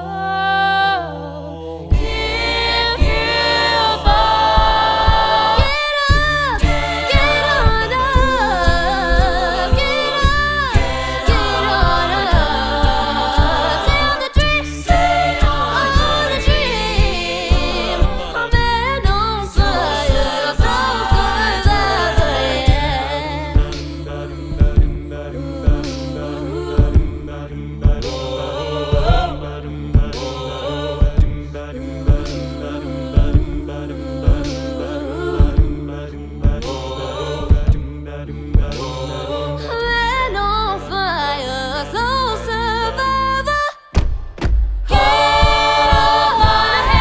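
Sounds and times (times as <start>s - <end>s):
a cappella group singing: 0.0s - 47.0s
vocal percussion beat: 1.9s - 41.0s, 43.4s - 47.0s
sung bass line: 1.9s - 43.7s, 44.5s - 47.0s.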